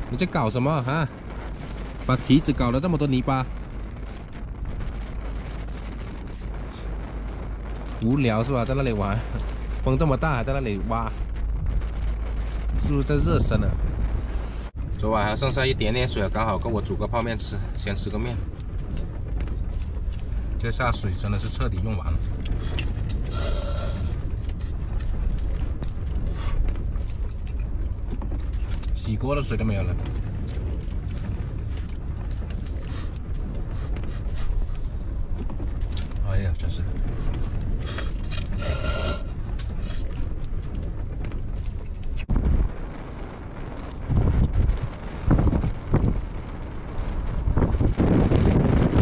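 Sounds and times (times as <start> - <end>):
strong wind buffeting vehicle: 0.0 - 49.0.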